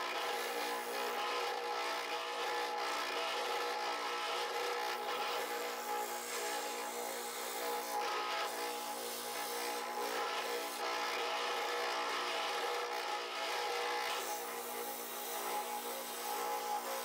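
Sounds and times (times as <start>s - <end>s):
spindle sander motor hum: 0.0s - 17.0s.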